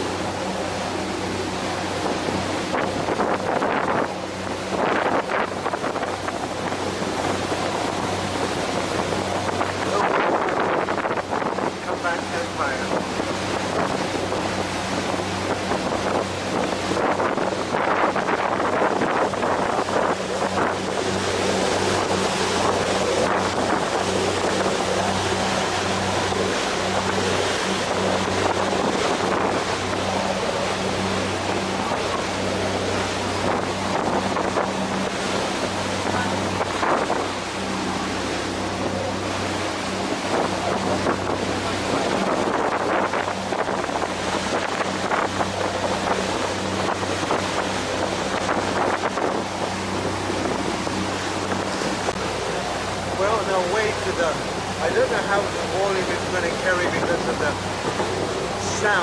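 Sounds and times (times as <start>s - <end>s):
ferry engine droning: 0.0s - 59.0s
water rushing: 0.0s - 59.0s
wind buffeting microphone: 0.0s - 59.0s.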